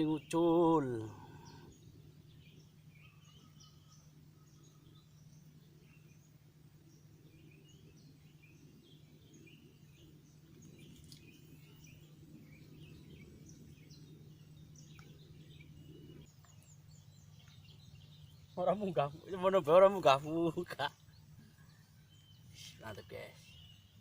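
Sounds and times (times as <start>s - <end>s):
low hum and rumble: 0.0s - 22.5s
small birds chirping: 0.0s - 24.0s.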